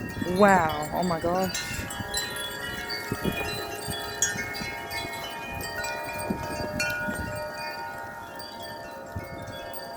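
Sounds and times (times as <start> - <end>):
strong wind: 0.0 - 9.9
wind chimes ringing: 0.0 - 9.9.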